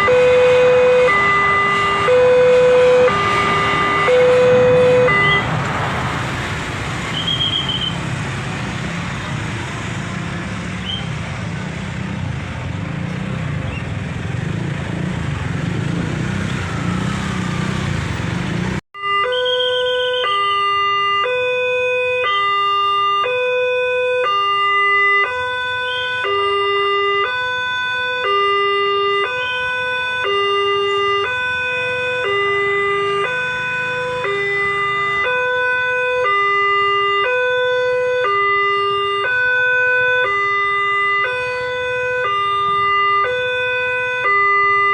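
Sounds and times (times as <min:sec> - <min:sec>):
road traffic noise: 0:00.0 - 0:44.9.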